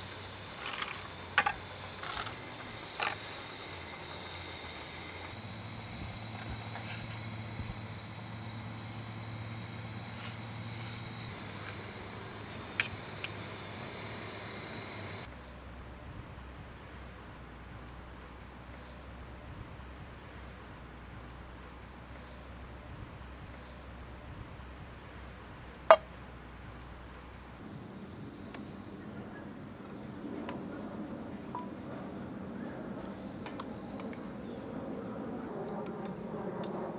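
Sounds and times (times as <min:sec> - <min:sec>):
high-pitched insect chorus: 0:00.0 - 0:36.9.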